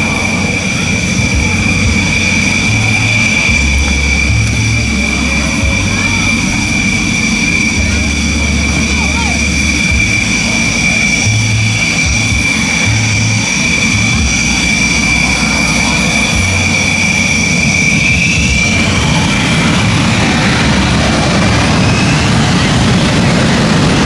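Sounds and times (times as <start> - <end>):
jet engine low rumble: 0.0 - 24.0
jet engine whine: 0.0 - 24.0.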